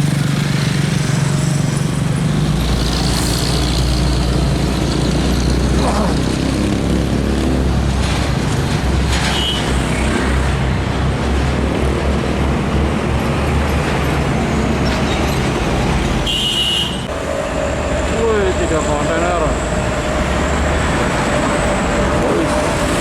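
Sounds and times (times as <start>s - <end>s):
heavy trucks passing: 0.0s - 23.0s.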